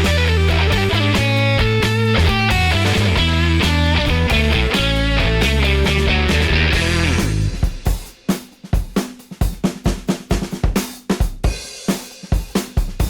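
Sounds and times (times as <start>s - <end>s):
drum kit playing a beat: 0.0s - 13.0s.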